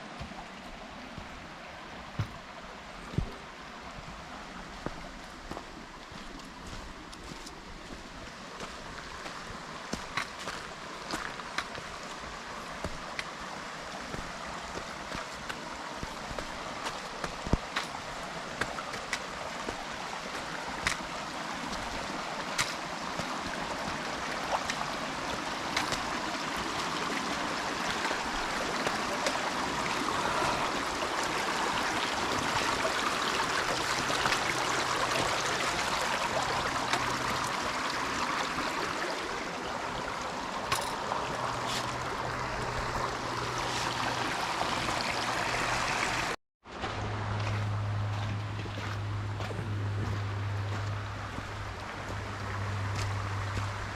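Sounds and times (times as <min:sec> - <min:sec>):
creek water over rocks: 0:00.0 - 0:53.9.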